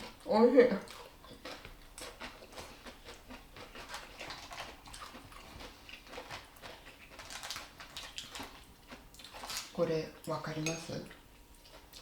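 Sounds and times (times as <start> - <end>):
person chewing food: 0.9 - 9.7, 11.2 - 12.0.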